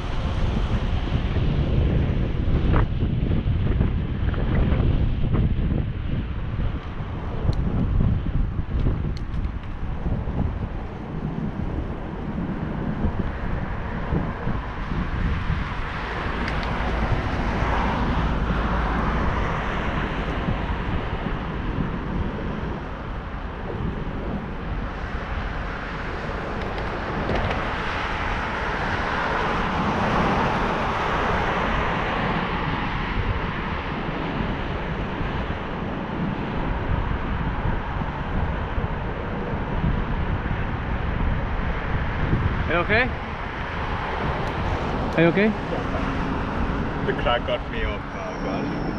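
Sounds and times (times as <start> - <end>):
wind rushing on microphone: 0.0 - 48.9.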